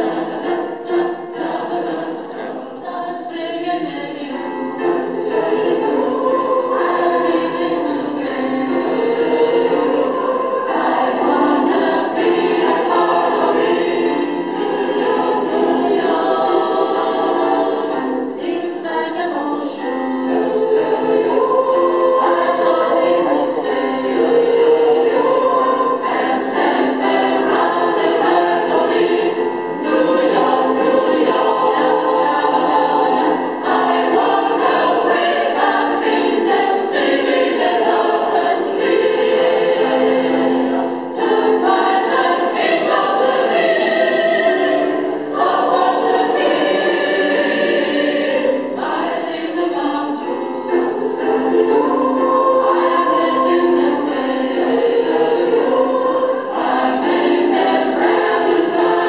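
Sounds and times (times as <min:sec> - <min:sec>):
mixed choir singing in harmony: 0:00.0 - 0:59.0.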